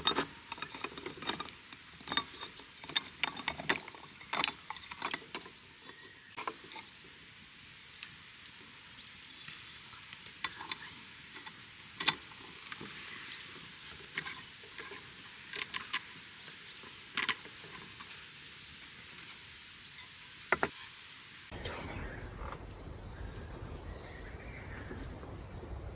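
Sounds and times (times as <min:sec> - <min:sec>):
faint steady hiss: 0:00.0 - 0:25.9.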